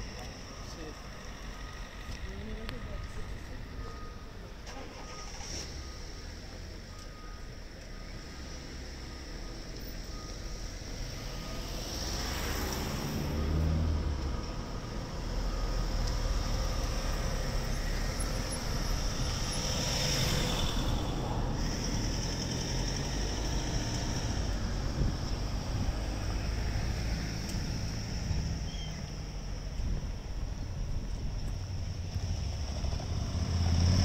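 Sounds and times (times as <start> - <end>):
vehicles driving past: 0.0 - 34.0.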